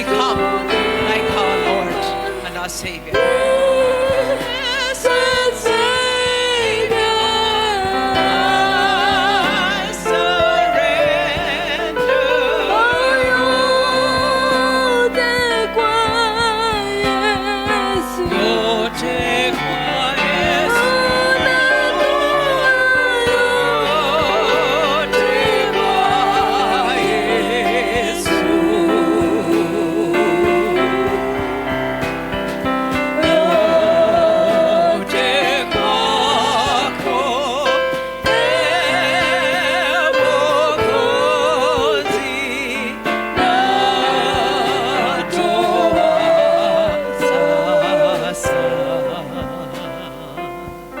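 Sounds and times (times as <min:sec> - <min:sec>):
person singing with vibrato: 0:00.0 - 0:51.0
sustained instrumental chords: 0:00.0 - 0:51.0.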